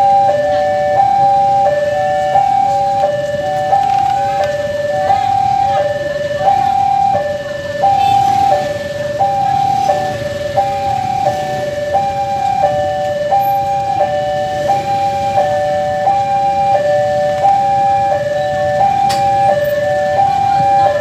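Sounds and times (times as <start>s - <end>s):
level crossing two-tone alarm: 0.0s - 21.0s.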